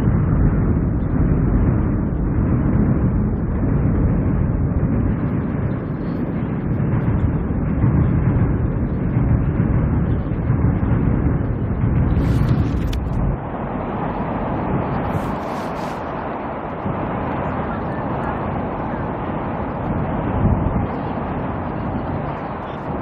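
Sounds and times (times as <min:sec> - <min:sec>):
strong wind gusting: 0:00.0 - 0:23.0.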